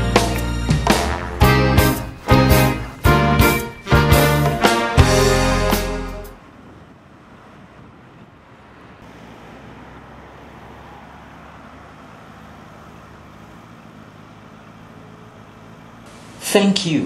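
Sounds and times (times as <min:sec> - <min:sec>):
low engine hum: 0:00.0 - 0:16.7
car engines and tyres: 0:00.0 - 0:17.0.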